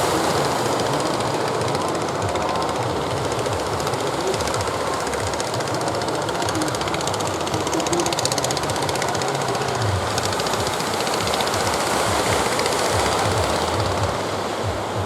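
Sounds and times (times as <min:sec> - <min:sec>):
boat engine knocking: 0:00.0 - 0:15.0
steady rushing noise: 0:00.0 - 0:15.0.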